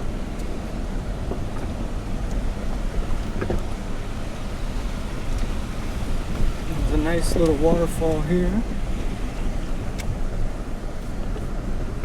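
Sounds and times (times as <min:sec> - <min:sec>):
truck rumbling on dirt trail: 0:00.0 - 0:12.0.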